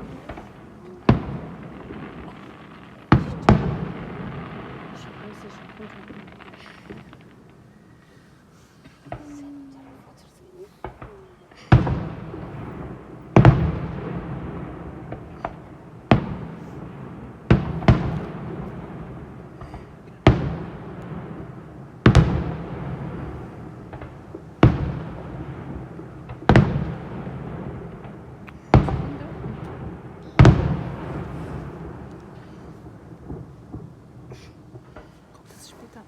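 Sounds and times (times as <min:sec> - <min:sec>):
firework bangs with rolling rumble: 0:00.0 - 0:08.1, 0:10.8 - 0:36.0.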